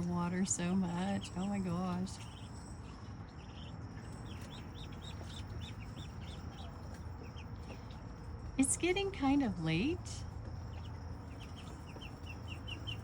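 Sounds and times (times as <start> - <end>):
crickets trilling: 0.0 - 13.0
ducklings peeping: 0.0 - 13.0.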